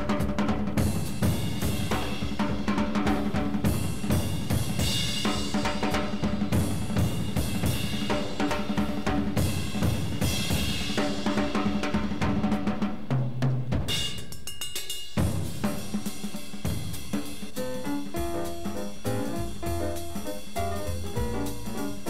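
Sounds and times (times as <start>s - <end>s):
drum kit beat: 0.0s - 22.0s.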